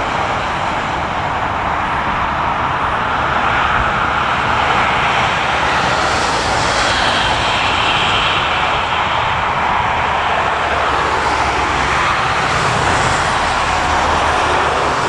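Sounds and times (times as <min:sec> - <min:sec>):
jet airliner engines rushing: 0:00.0 - 0:15.0.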